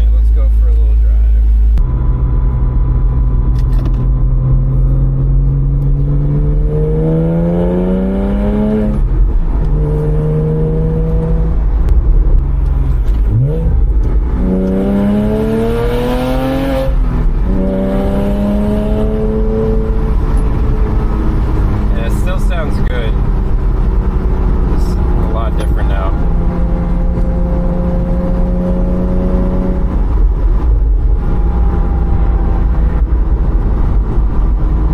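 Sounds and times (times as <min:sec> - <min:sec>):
car exhaust accelerating hard: 0:01.5 - 0:34.9.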